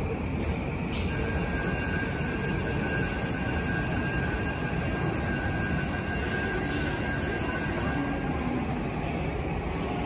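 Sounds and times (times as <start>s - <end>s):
electric train equipment humming: 0.0s - 10.0s.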